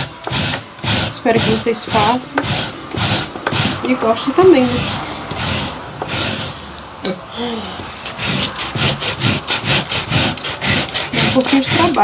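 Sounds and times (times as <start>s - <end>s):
hand grating cassava: 0.0s - 6.6s, 7.8s - 12.0s.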